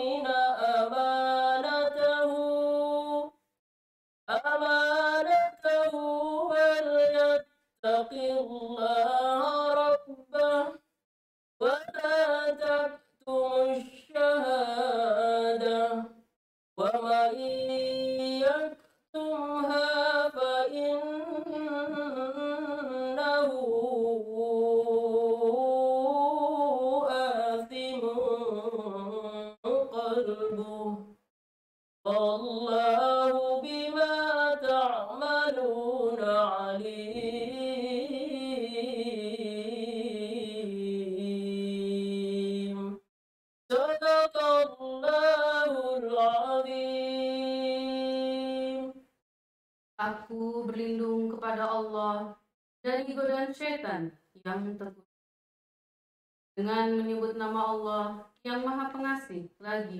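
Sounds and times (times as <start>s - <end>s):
woman chanting: 0.0s - 3.4s, 4.3s - 10.8s, 11.6s - 16.2s, 16.8s - 31.1s, 32.1s - 43.0s, 43.7s - 49.0s, 50.0s - 55.1s, 56.6s - 59.9s.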